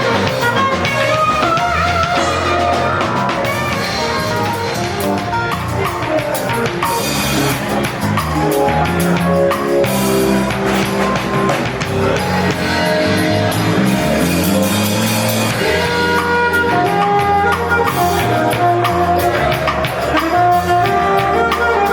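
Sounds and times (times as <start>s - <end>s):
live band playing: 0.0s - 21.9s.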